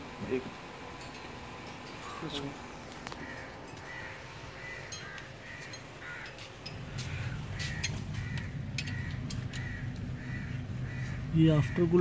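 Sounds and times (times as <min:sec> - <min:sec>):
crows cawing: 0:02.0 - 0:12.0.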